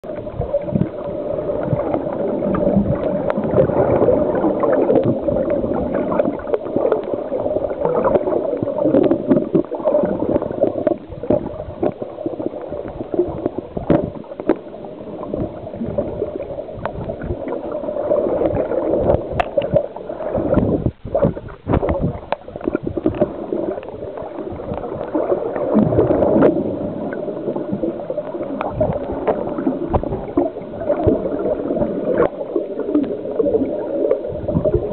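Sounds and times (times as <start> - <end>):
underwater gurgling and bubbling: 0.0 - 34.9
small clicks and crackles: 0.1 - 34.9.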